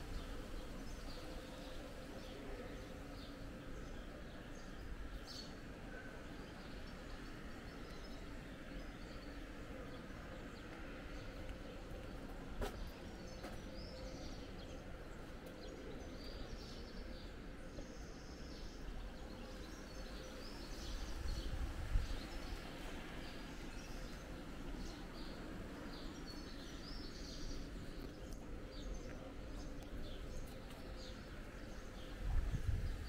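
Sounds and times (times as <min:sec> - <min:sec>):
steady background noise: 0:00.0 - 0:33.0
small birds chirping: 0:00.1 - 0:33.0.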